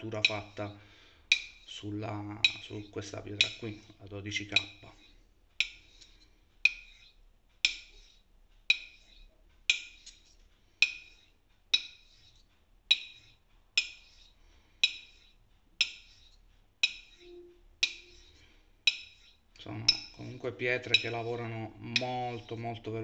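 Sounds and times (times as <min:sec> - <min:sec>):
razor clicking on whetstone: 0:00.0 - 0:22.7.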